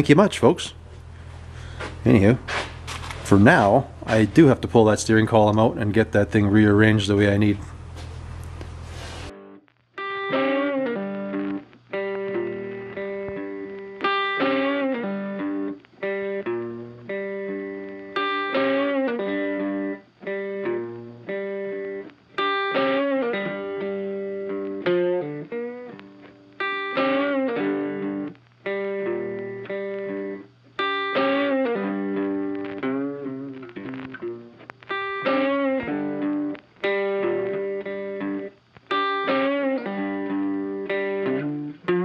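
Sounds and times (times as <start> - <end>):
plucked guitar music: 0.0 - 42.0.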